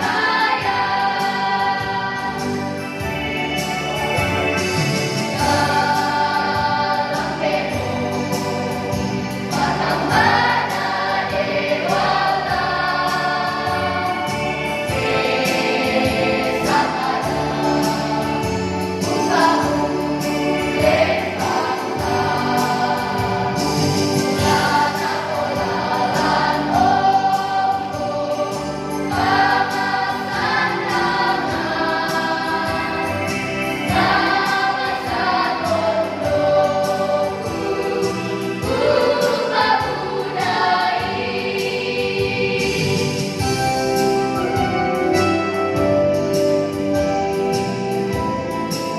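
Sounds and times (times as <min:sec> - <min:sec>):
children's choir singing: 0:00.0 - 0:45.2.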